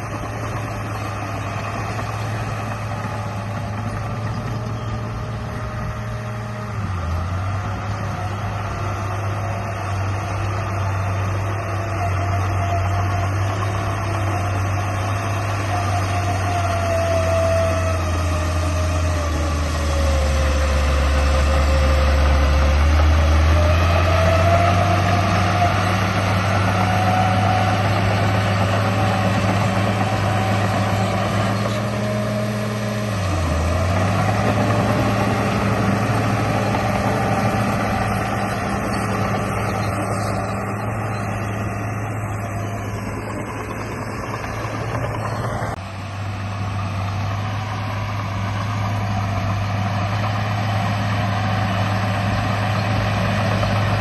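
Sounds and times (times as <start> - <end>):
toy bulldozer engine drone: 0.0 - 54.0.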